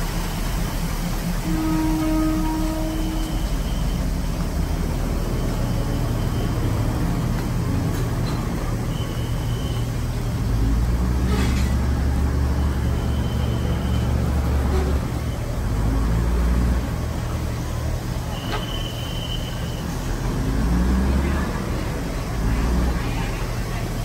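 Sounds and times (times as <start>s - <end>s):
diesel train idling: 0.0s - 24.0s.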